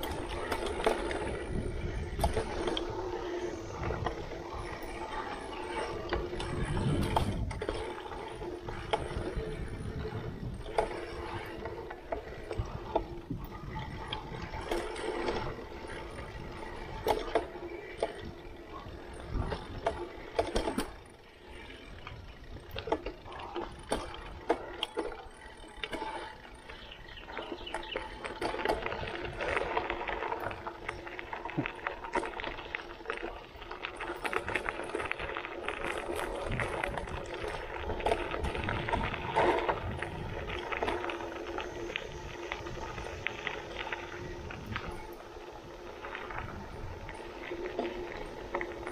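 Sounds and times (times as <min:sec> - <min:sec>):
bike rattling over bumps: 0:00.0 - 0:48.9
bike tyres rolling on dirt: 0:00.0 - 0:48.9.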